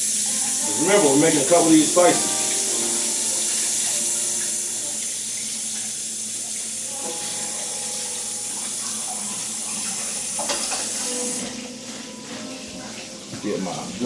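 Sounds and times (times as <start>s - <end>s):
tap running: 0.0s - 13.8s.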